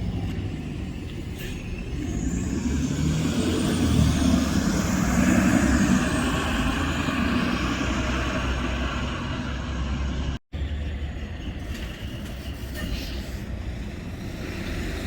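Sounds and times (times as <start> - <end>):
bus driving past: 0.0 - 15.0.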